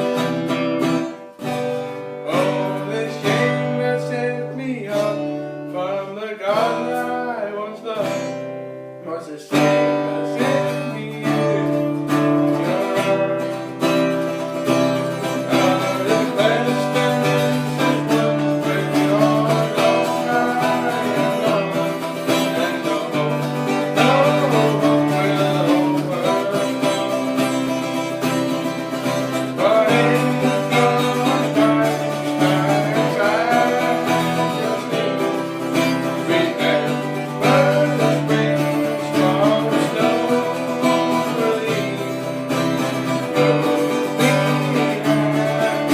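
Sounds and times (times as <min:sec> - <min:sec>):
acoustic guitar strummed and plucked: 0:00.0 - 0:45.9.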